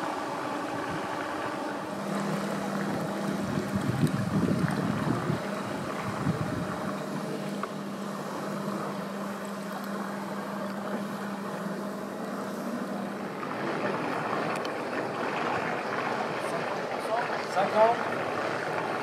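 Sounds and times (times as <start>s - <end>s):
small boat motor humming: 0.0s - 19.0s
water noise: 0.0s - 19.0s
wind: 0.0s - 19.0s.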